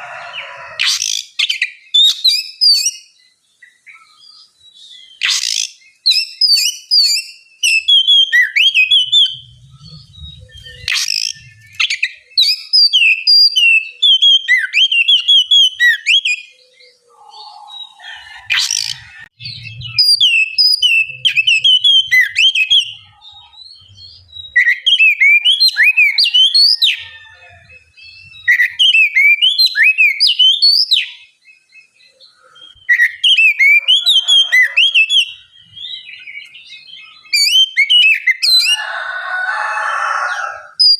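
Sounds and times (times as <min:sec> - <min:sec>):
magpie-robin singing: 0:00.4 - 0:38.8.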